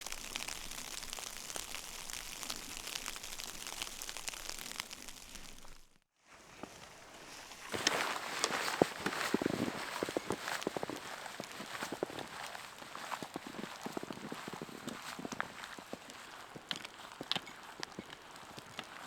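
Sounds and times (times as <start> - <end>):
dense pattering and crackling: 0.0 - 6.0, 6.6 - 19.0
footsteps crunching in snow: 2.1 - 19.0.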